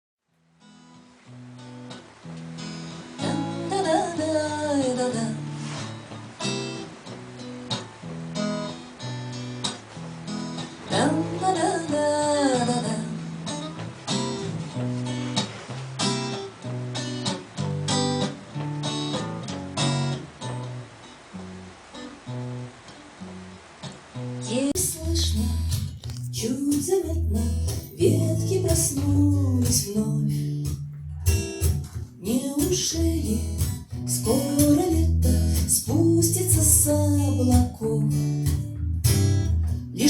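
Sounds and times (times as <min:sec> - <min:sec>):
acoustic guitar strumming: 0:00.6 - 0:40.0.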